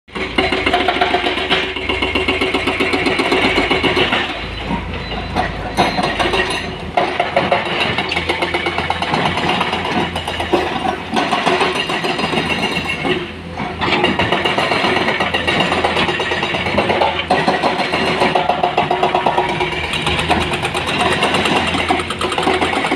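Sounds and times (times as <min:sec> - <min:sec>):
diesel engines running: 0:00.1 - 0:22.9.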